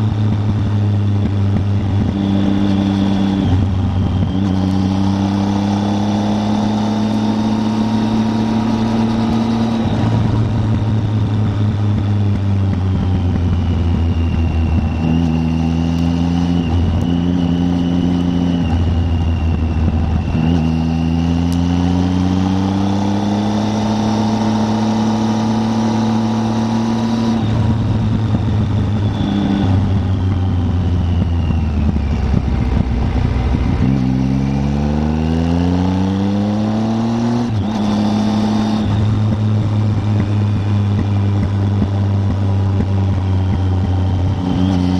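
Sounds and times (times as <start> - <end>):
motorcycle engine riding on road: 0.0 - 44.9.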